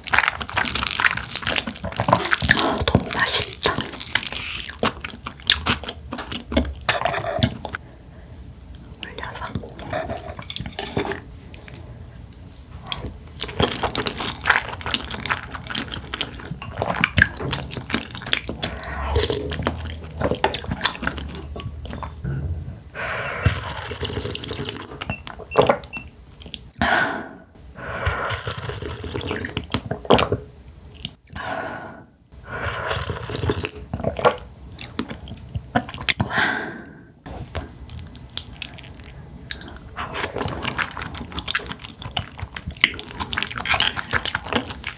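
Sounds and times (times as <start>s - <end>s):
wet chewing and slurping: 0.0s - 7.8s, 8.7s - 26.7s, 28.0s - 31.4s, 32.6s - 36.2s, 37.3s - 44.9s.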